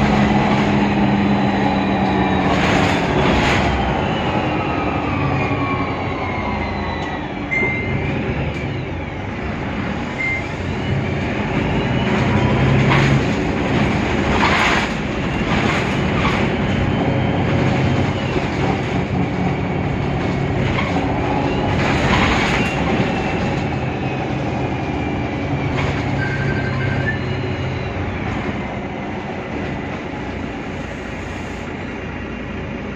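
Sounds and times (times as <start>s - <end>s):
bus engine hum: 0.0s - 32.9s.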